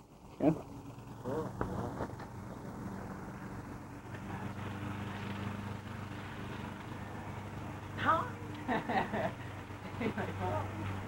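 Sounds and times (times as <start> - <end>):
faint outdoor hiss: 0.0 - 11.0
steady low hum: 0.0 - 11.0.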